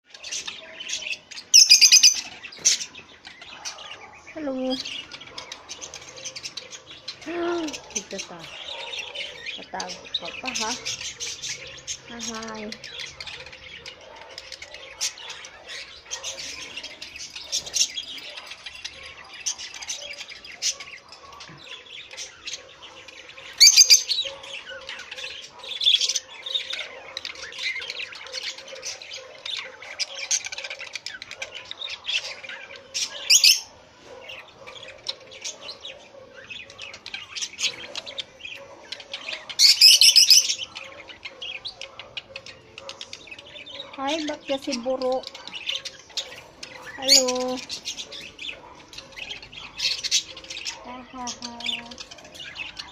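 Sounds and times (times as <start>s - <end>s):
budgerigars chirping and chattering: 0.1s - 52.9s
budgerigar squawks: 4.8s - 52.9s.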